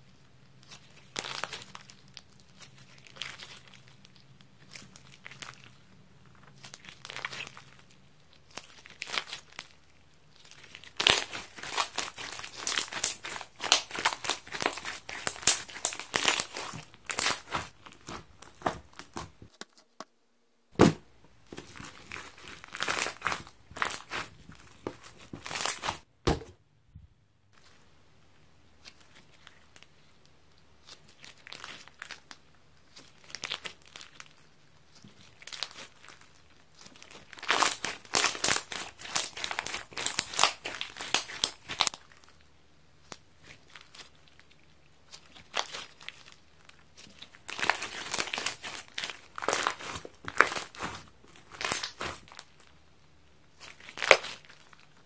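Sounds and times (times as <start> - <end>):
slime crackling when squeezed: 0.6 - 19.3, 21.6 - 26.0, 30.8 - 42.4, 43.0 - 52.8, 53.5 - 55.0.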